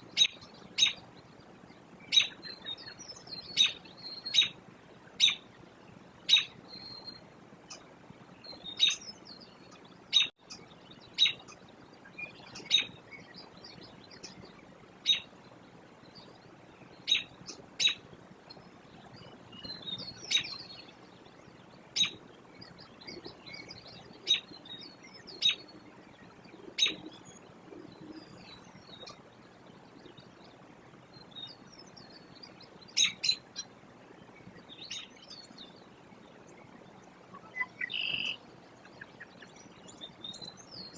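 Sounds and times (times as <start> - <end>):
birds chirping: 0.0 - 40.9
faint bird twittering: 0.0 - 40.9.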